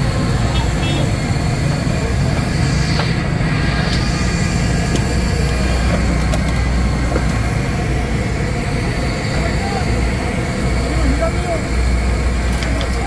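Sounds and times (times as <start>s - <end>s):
low machine rumble: 0.0s - 13.0s.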